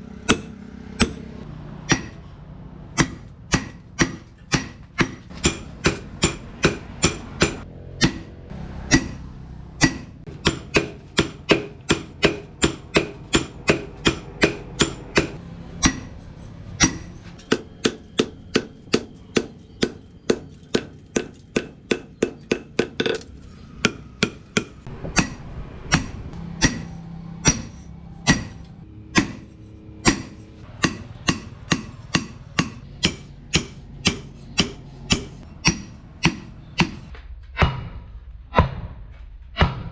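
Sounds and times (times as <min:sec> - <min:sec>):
hammer striking steel on anvil: 0:00.0 - 0:02.3, 0:03.0 - 0:37.9.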